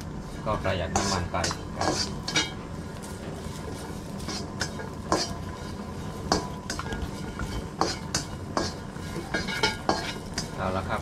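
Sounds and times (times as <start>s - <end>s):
spatula scraping a wok: 0.0s - 11.0s.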